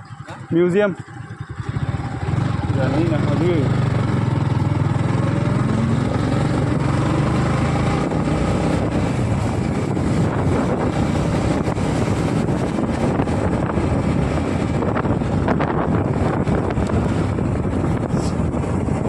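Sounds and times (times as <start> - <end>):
motorcycle engine running: 0.0 - 19.0
wind rushing over microphone: 1.7 - 19.0.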